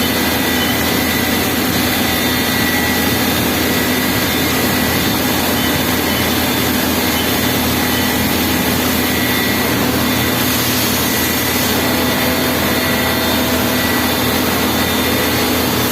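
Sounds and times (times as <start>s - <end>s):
lathe machine whirring loudly: 0.0s - 15.9s.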